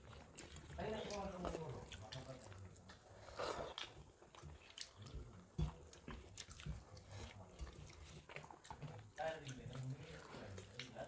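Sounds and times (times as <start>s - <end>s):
chewing and wet mouth noises: 0.0s - 11.0s
fingers squishing food on plates: 0.0s - 11.0s.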